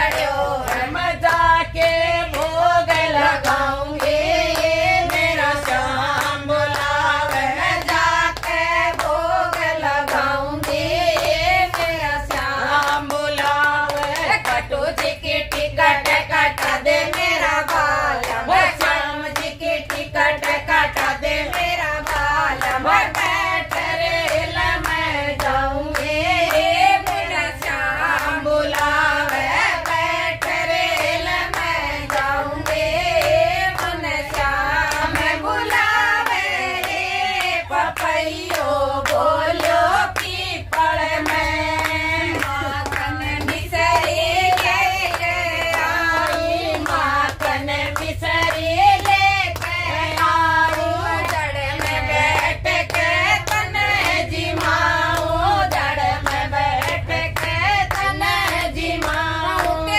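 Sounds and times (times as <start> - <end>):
group singing: 0.0 - 59.9
rhythmic hand clapping: 0.0 - 59.9.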